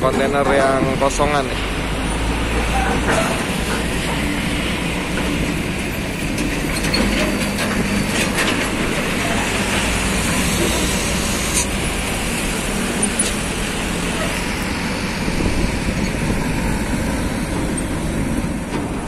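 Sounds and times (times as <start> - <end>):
diesel truck engines running: 0.0 - 19.0
trailers rattling and clanking: 0.0 - 19.0.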